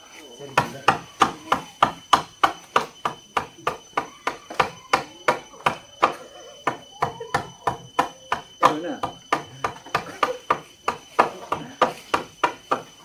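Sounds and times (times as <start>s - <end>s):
hammer knocking on wooden post: 0.6s - 12.9s.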